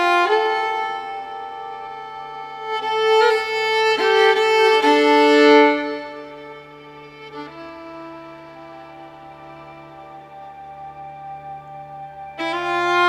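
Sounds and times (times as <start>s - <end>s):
violin playing long held notes: 0.0s - 13.0s.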